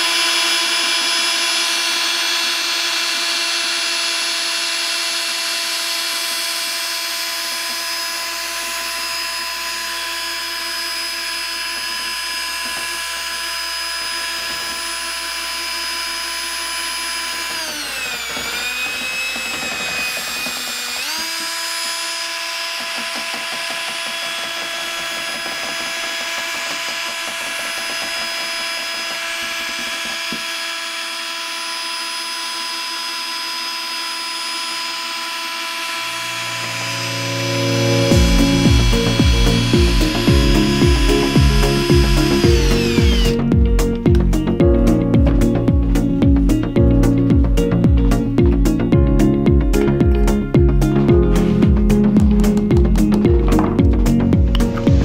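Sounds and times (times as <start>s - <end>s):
cordless drill motor whine: 0.0s - 44.6s.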